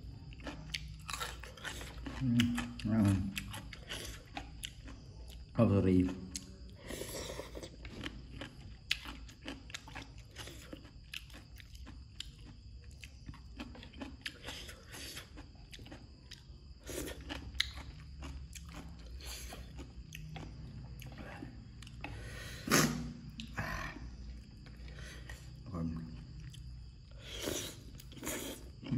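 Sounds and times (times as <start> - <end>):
person chewing and crunching: 0.0 - 28.9.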